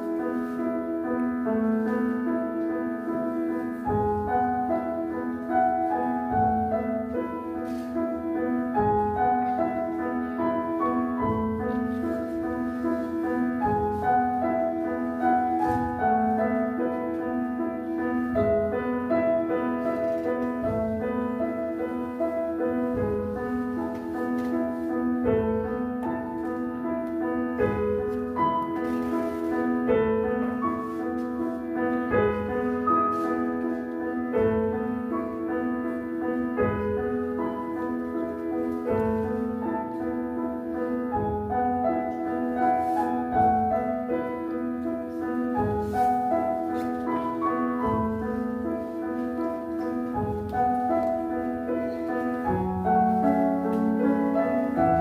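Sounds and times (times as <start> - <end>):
upright piano piece: 0.0 - 55.0.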